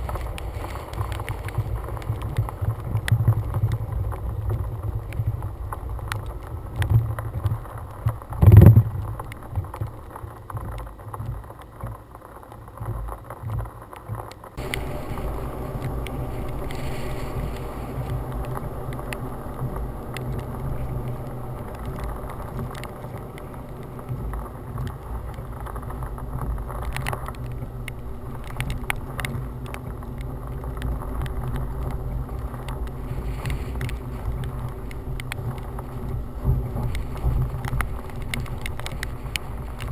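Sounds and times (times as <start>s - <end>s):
wind buffeting microphone: 0.0s - 11.5s, 14.6s - 39.9s.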